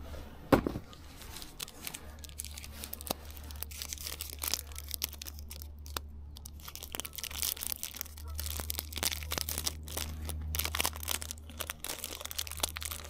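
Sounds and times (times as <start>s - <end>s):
steady low hum: 0.0s - 13.0s
wrapper crinkling and tearing: 1.2s - 13.0s.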